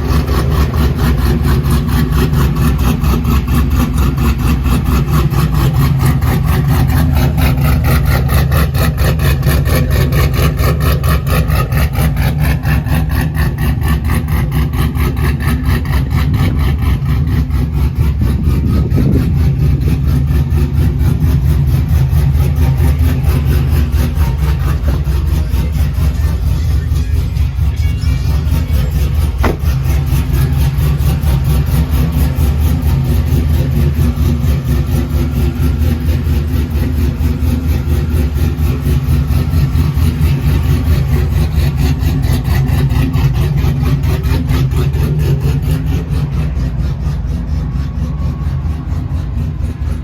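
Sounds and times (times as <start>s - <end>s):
truck engine idling with lope: 0.0s - 50.0s.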